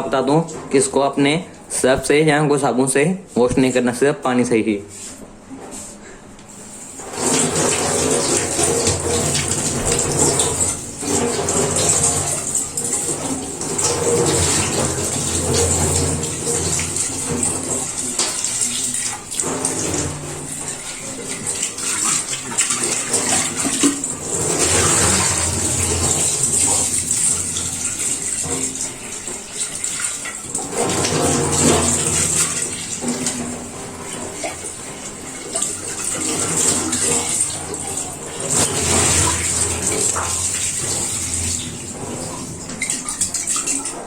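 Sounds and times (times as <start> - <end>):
water running and splashing: 6.5 - 44.0.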